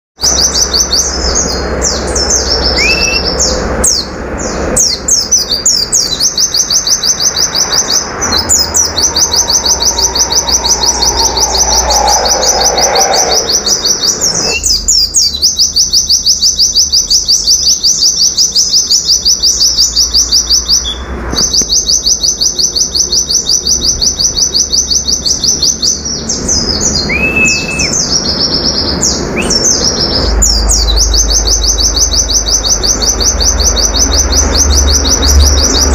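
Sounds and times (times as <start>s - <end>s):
bird singing rapid high notes: 0.2s - 35.9s
upswept bird whistles: 2.6s - 3.6s, 4.9s - 35.9s.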